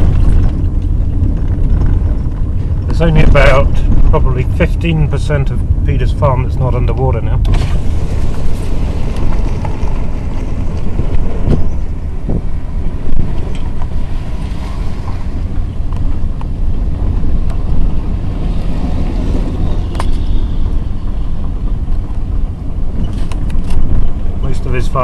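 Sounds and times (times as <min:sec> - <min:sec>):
vehicle running: 0:00.0 - 0:25.0
wind buffeting microphone: 0:00.0 - 0:25.0.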